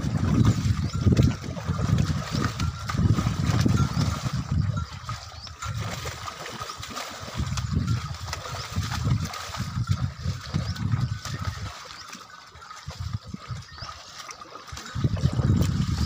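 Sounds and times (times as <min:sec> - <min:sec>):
muddy water sloshing and splashing: 0:00.0 - 0:16.0.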